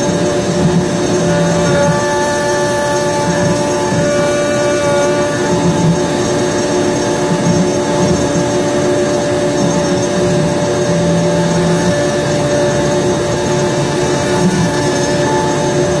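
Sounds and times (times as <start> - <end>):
machine low hum: 0.0 - 16.0
router spindle whine: 0.0 - 16.0.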